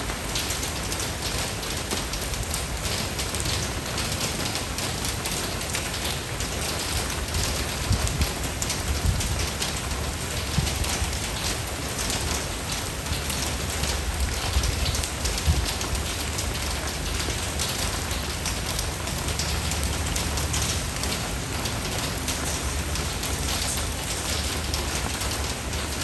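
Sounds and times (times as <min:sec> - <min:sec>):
rain pattering on a surface: 0:00.0 - 0:26.0.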